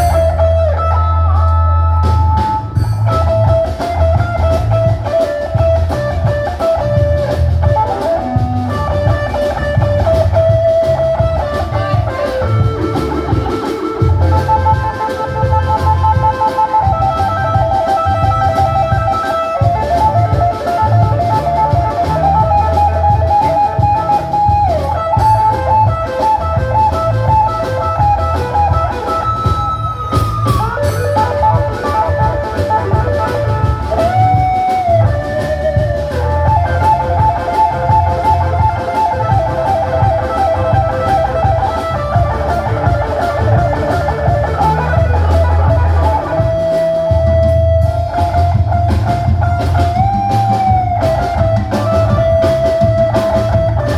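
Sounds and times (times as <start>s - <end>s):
bass: 0.0s - 53.9s
drums: 0.0s - 53.9s
sliding guitar melody: 0.0s - 53.9s.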